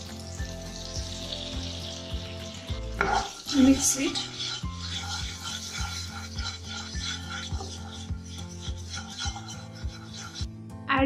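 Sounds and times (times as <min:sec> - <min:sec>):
background music with beat: 0:00.0 - 0:11.0
spoon scraping a pan: 0:01.0 - 0:10.5.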